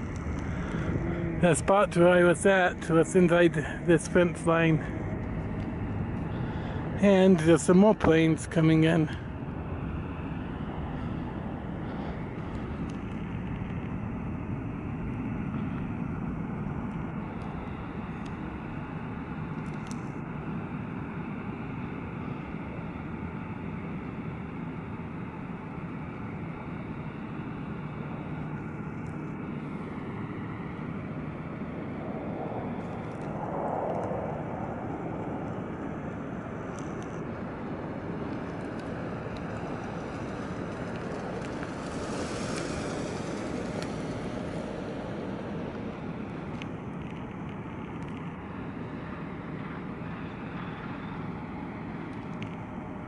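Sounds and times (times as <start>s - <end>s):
distant jet engines rumbling: 0.0s - 53.0s.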